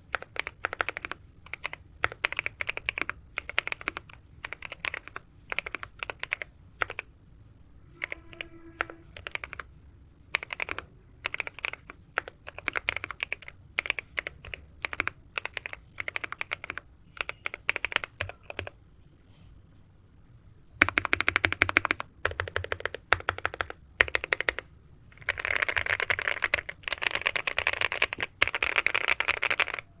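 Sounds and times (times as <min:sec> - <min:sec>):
mechanical keyboard typing: 0:00.0 - 0:07.1, 0:08.0 - 0:09.7, 0:10.3 - 0:18.8, 0:20.8 - 0:30.0.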